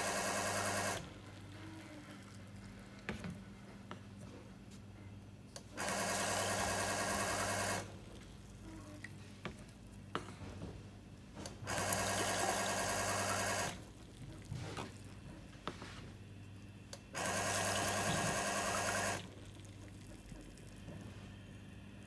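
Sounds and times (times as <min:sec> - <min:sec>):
filling machine pump motor: 0:00.0 - 0:22.0.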